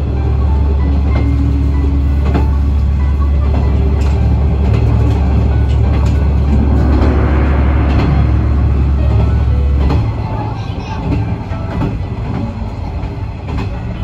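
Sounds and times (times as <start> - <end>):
diesel railcar drone: 0.0 - 14.0.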